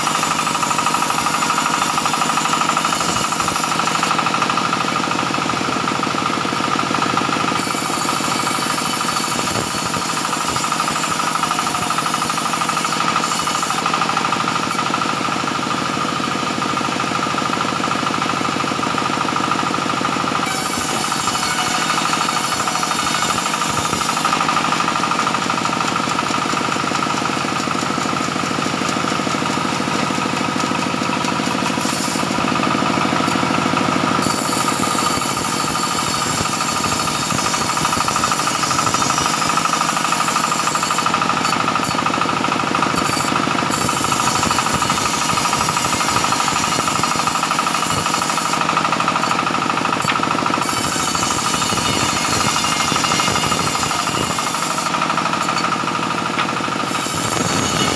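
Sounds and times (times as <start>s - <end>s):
sawmill saw cutting planks: 0.0s - 57.9s.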